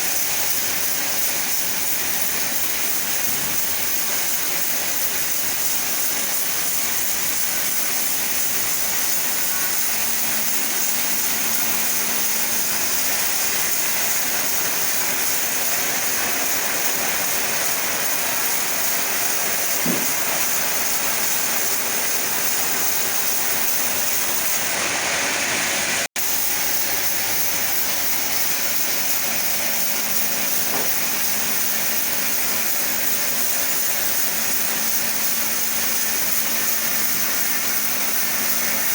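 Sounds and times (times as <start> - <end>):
chainsaw cutting wood: 0.0 - 25.0, 25.6 - 38.9.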